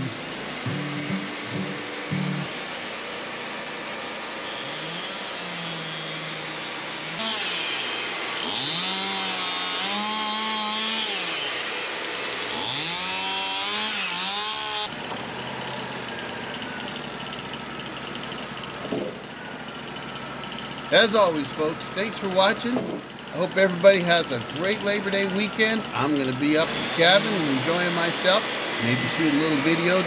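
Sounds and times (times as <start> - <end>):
band sawmill cutting log: 0.0 - 19.2, 20.4 - 30.0.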